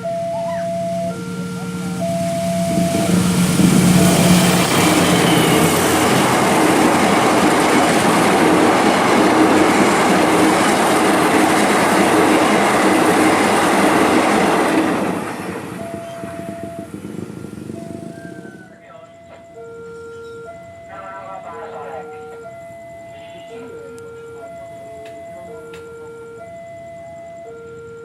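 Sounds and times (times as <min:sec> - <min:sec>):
carriages rattling over rails: 0:00.0 - 0:26.4
train passing: 0:00.0 - 0:28.0.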